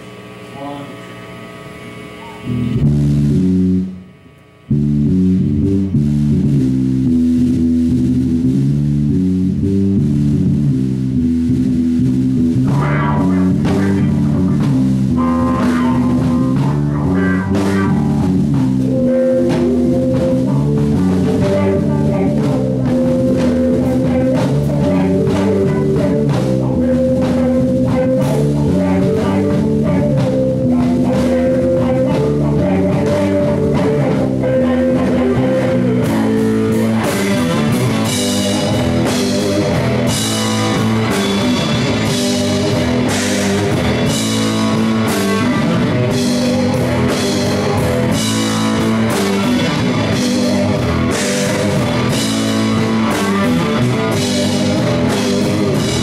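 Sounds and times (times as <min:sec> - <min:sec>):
drums and cymbals: 0:04.7 - 0:56.0
live rock band: 0:04.7 - 0:56.0.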